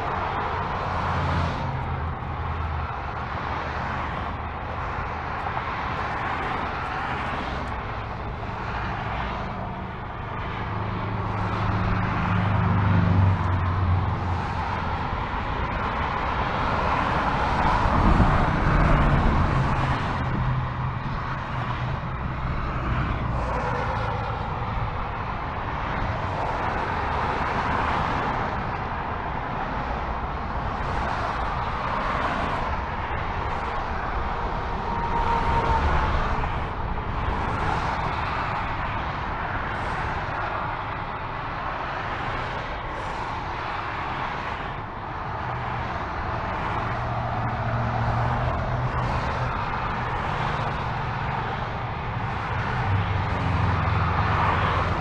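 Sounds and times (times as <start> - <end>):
heavy vehicle engine drone: 0.0 - 55.0.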